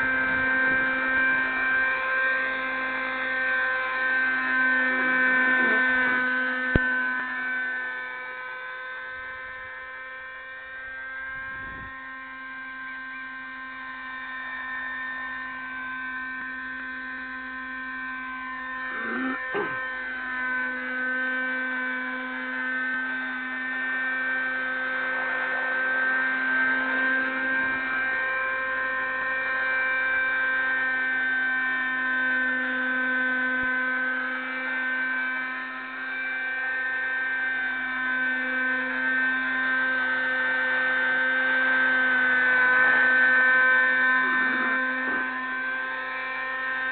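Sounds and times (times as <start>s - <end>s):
model helicopter engine whirring: 0.0s - 46.9s.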